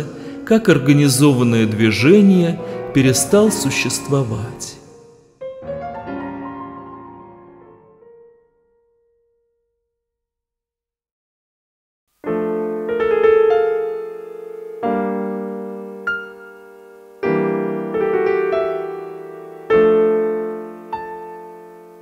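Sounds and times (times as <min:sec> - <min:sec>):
slow piano chords: 0:00.0 - 0:09.1, 0:12.2 - 0:22.0.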